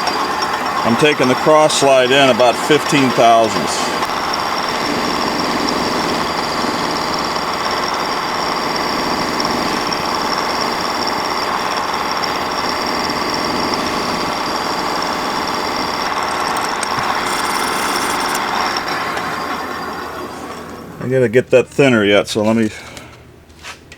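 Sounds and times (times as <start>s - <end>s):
high whine: 0.0s - 21.0s
metal lathe turning: 0.0s - 22.7s.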